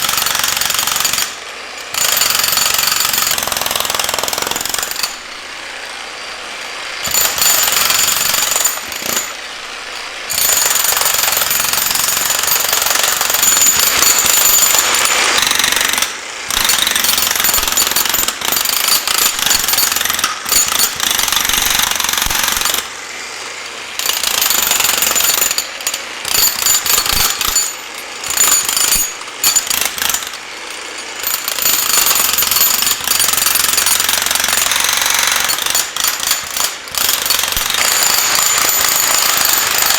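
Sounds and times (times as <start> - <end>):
jackhammer breaking concrete: 0.0 - 39.9.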